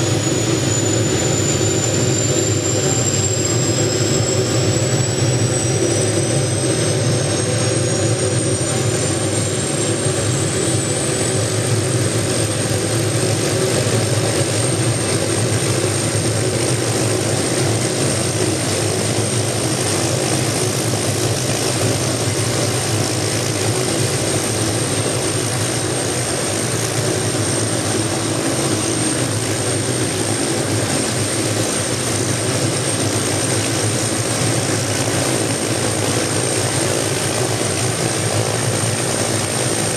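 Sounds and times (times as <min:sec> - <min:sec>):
helicopter engine drone and whine: 0:00.0 - 0:39.9.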